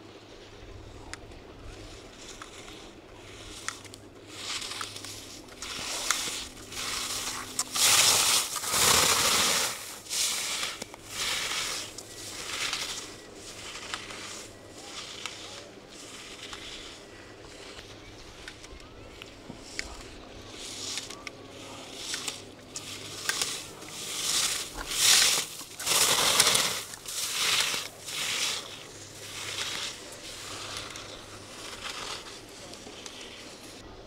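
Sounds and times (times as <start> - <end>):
skis scraping on hard snow: 0.5 - 33.9.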